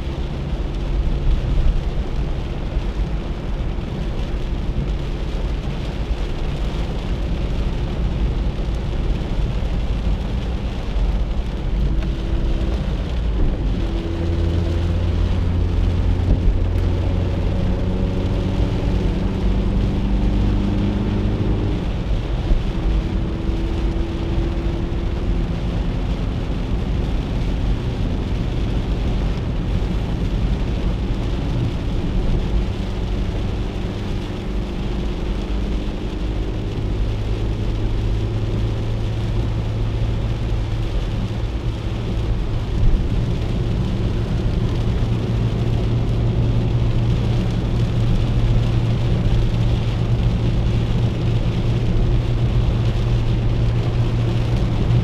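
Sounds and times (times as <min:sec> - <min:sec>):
car engine droning: 0:00.0 - 0:55.0
rain hiss: 0:00.0 - 0:55.0
tyres on wet road: 0:00.0 - 0:55.0.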